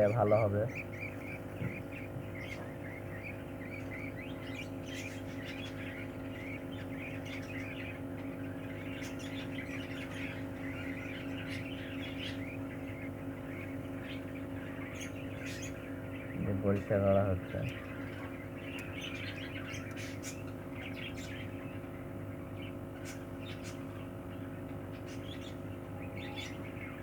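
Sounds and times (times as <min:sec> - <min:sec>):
budgerigars chirping: 0:00.0 - 0:27.0
steady low hum: 0:00.0 - 0:27.0.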